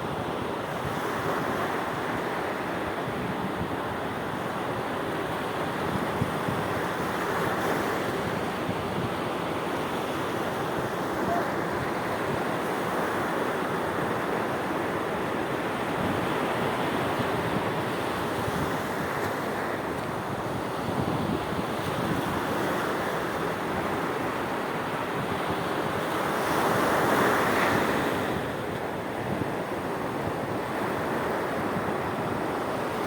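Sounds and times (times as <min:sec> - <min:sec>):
wind on microphone: 0:02.8 - 0:33.0.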